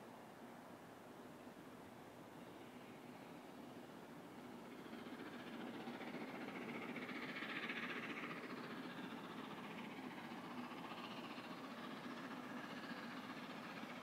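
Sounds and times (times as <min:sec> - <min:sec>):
steam locomotive approaching: 0:01.0 - 0:14.0.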